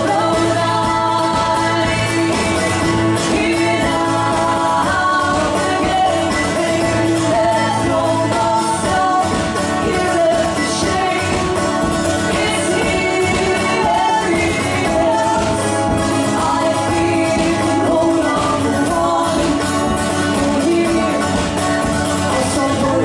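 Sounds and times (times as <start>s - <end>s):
acoustic guitar: 0.0s - 23.0s
mandolin: 0.0s - 23.0s
two women singing together: 0.0s - 23.0s.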